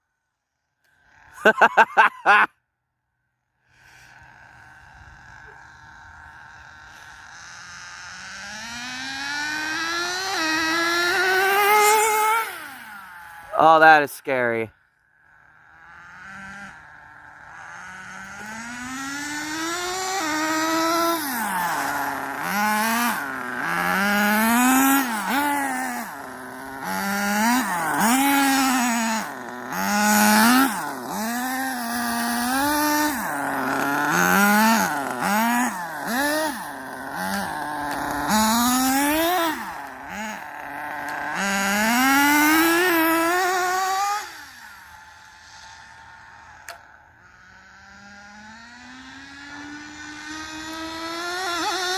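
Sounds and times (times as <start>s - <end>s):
rc car motor and gear whine: 0.0s - 1.5s, 3.2s - 51.9s.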